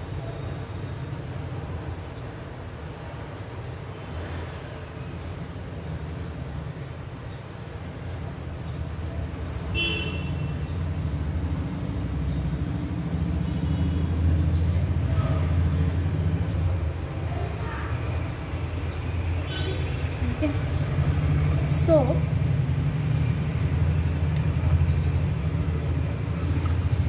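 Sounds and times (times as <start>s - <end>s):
low rumbling background noise: 0.0s - 27.0s.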